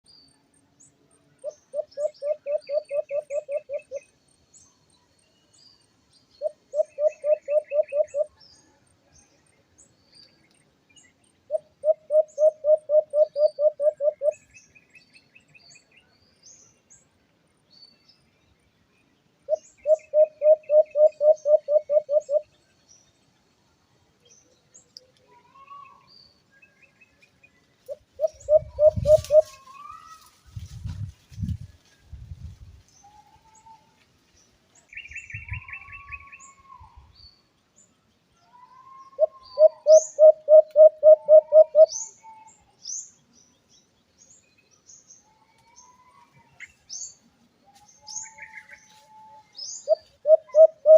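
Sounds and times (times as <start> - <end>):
small birds chirping faintly: 0.0 - 50.9.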